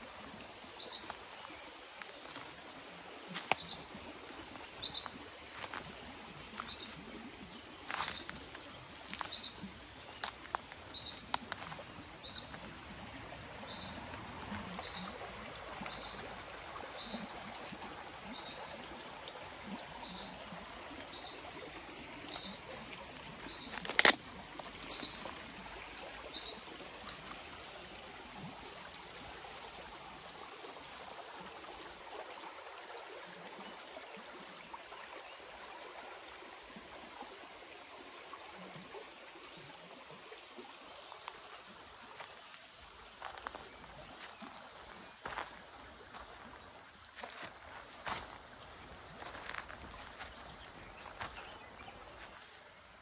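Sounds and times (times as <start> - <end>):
brook flowing over stones: 0.0 - 53.0.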